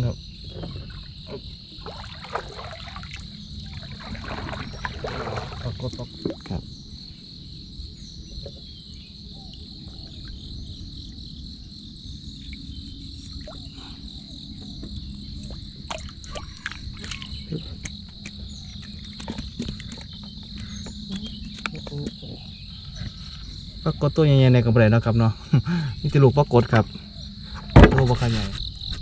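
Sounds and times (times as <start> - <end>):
insect chorus chirring: 0.0 - 29.0.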